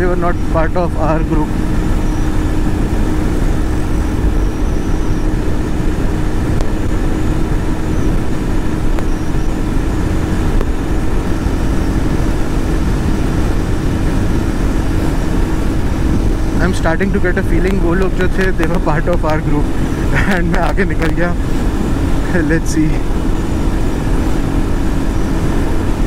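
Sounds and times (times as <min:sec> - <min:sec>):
motorcycle engine drone: 0:00.0 - 0:26.0
wind rush on microphone: 0:00.0 - 0:26.0.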